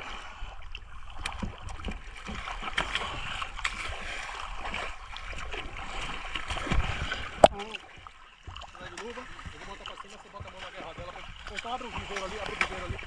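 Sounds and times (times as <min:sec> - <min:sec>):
small water splashes: 0:00.0 - 0:13.0
water rushing: 0:01.1 - 0:13.0.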